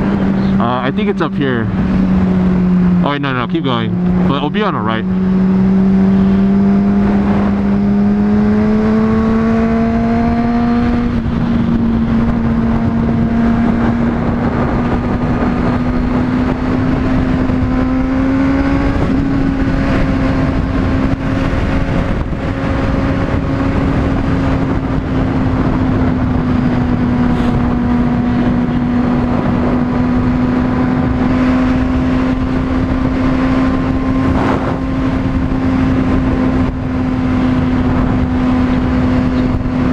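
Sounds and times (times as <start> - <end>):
motorcycle engine running: 0.0 - 3.1, 3.9 - 39.9
wind on microphone: 5.1 - 39.9.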